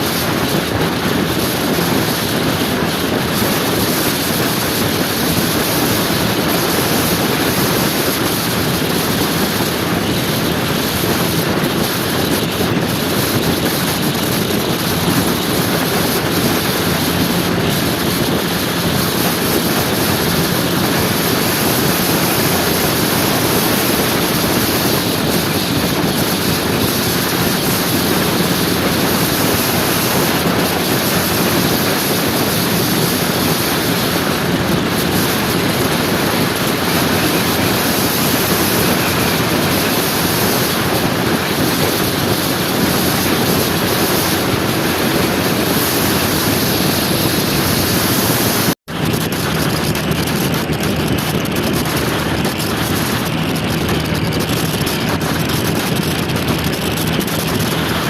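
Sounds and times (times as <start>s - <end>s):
road noise: 0.0s - 58.0s
scooter engine hum: 0.0s - 58.0s
wind rushing over microphone: 0.0s - 58.0s.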